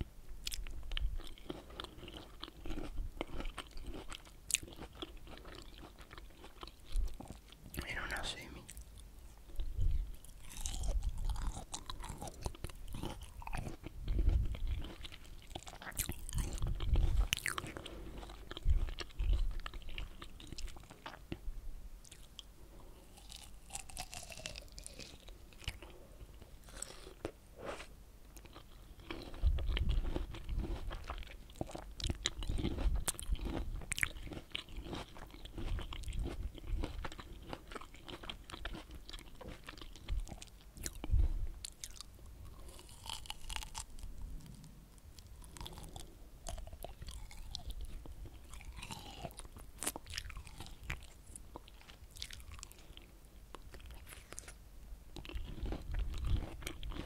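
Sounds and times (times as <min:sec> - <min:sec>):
biting and chewing fruit: 0:00.4 - 0:21.4, 0:22.0 - 0:57.0.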